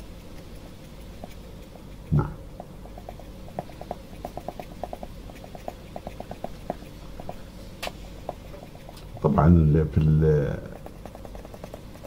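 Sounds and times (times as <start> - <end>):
pencil tapping on paper: 0.0 - 9.4, 10.6 - 12.0.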